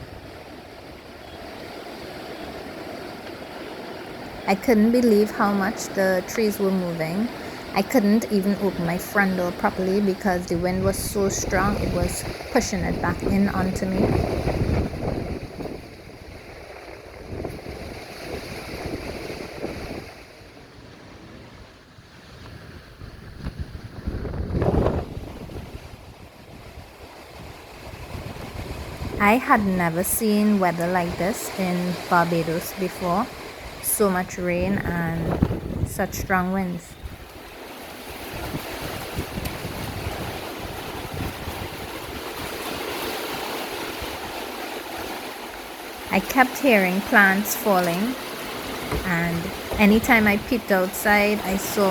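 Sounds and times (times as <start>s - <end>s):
strong wind: 0.0s - 51.9s
wind buffeting microphone: 4.2s - 51.9s.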